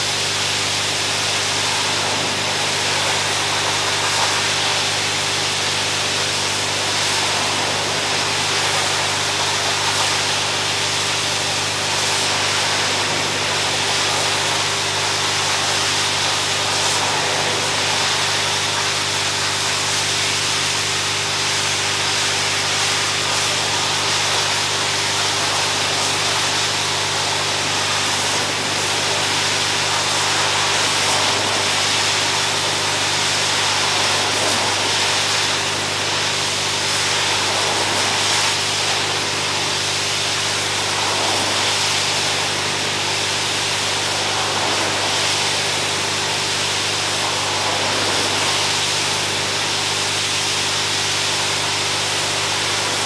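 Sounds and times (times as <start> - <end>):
pressure washer motor hum: 0.0 - 53.0
water jet spraying: 0.0 - 53.0.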